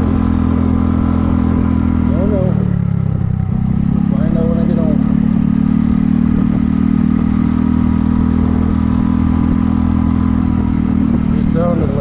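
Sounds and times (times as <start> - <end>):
scooter engine cruising: 0.0 - 12.0.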